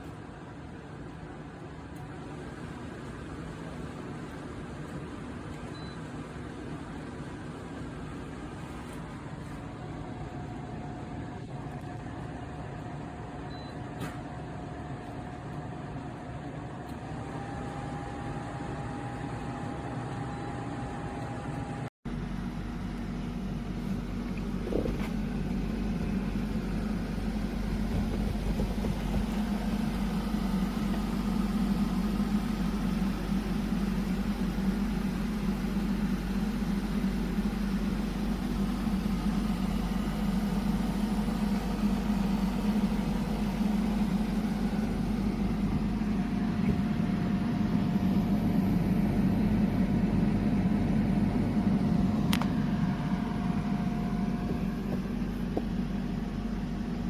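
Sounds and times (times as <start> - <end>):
air conditioner humming: 0.0 - 57.0.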